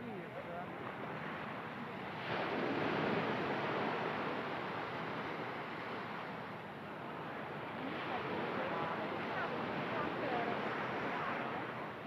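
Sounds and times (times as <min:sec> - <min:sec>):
ocean surf breaking on beach: 0:00.6 - 0:12.0.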